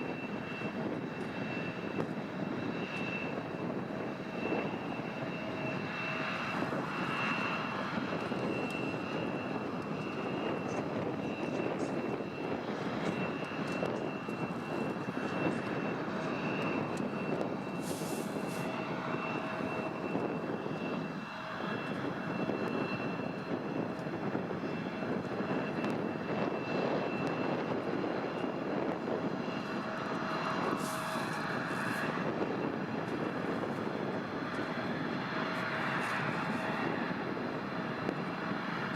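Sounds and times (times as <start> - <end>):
airliner engines running: 0.0 - 38.9.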